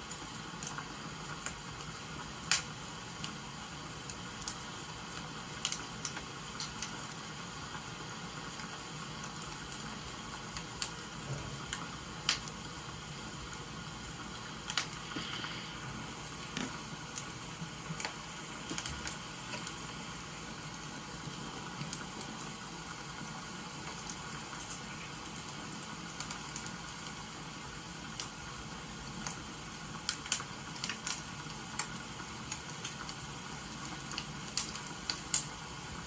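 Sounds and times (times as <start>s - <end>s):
rain hissing: 0.0s - 36.0s
wood fire crackling and popping: 0.0s - 36.0s.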